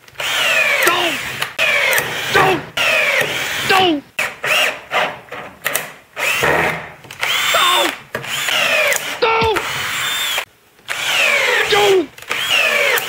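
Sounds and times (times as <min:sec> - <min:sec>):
cordless drill driving screws: 0:00.2 - 0:05.2, 0:06.2 - 0:13.0.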